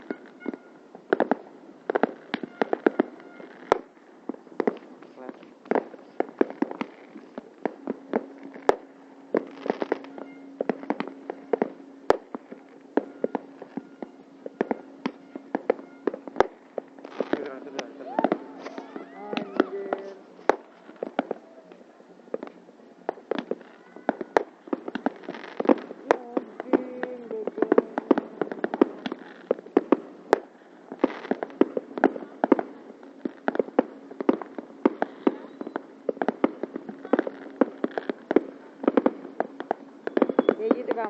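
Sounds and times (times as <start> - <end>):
fireworks bangs and cracks: 0.0 - 41.0.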